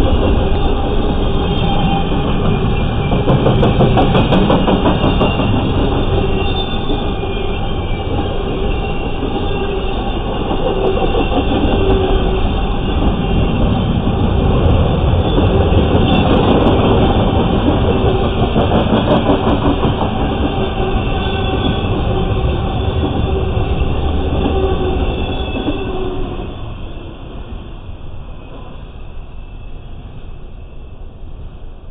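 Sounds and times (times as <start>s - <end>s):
freight train rolling past: 0.0s - 31.9s.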